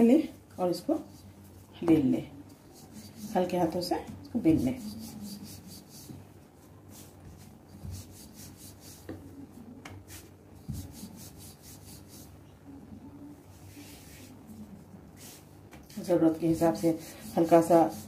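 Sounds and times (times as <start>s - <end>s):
rolling pin rubbing on dough: 0.7s - 9.4s, 10.0s - 12.4s, 13.6s - 14.4s, 15.2s - 18.0s.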